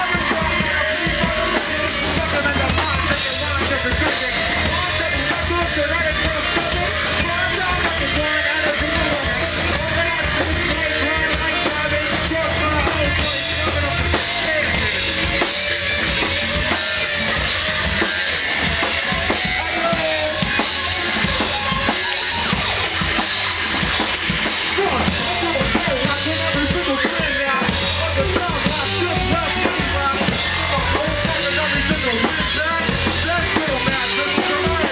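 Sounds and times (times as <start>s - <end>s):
bass drum and snare: 0.0s - 34.9s
live rock band playing: 0.0s - 34.9s.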